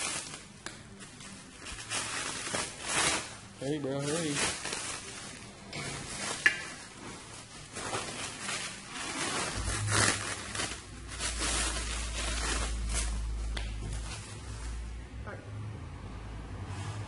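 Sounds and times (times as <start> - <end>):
packaging crinkling and scraping: 0.0 - 14.8.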